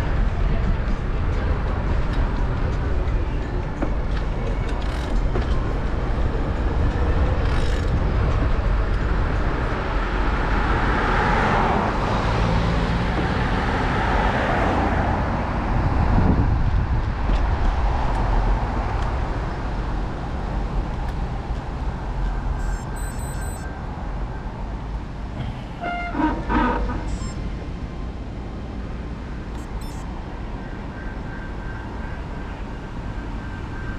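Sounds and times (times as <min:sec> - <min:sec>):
vehicle travelling on road: 0:00.0 - 0:33.9.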